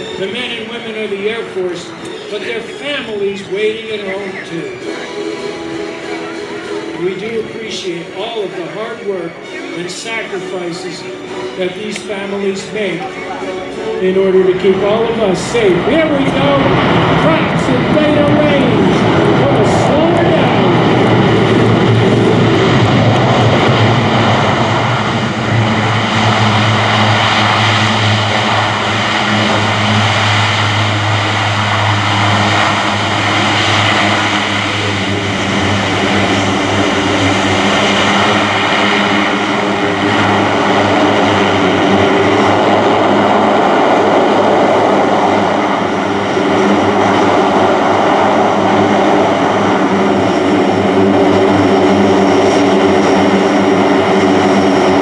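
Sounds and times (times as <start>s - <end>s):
turboprop engines droning loudly: 0.0s - 55.0s.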